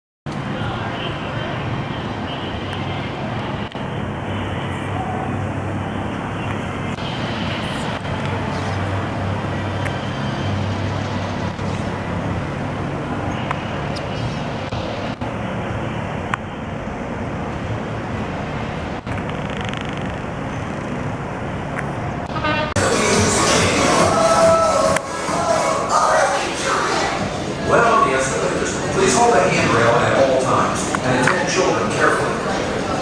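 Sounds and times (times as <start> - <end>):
low engine rumble: 0.3 - 33.0.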